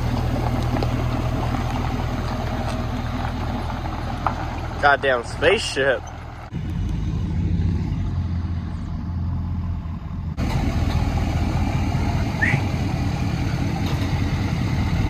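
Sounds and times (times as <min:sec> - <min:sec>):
engine and road noise: 0:00.0 - 0:15.0
truck engine humming: 0:00.0 - 0:15.0.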